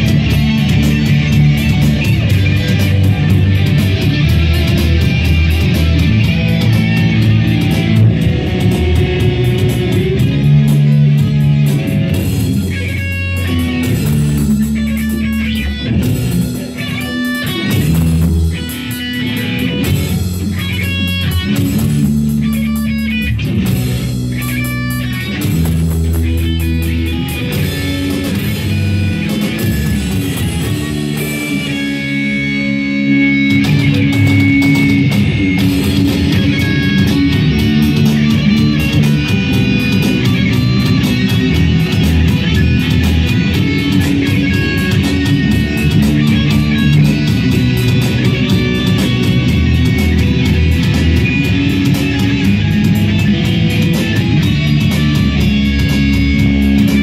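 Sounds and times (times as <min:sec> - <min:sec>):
bass guitar: 0:00.0 - 0:57.0
electric guitar: 0:00.0 - 0:57.0
electronic drum kit: 0:00.0 - 0:57.0.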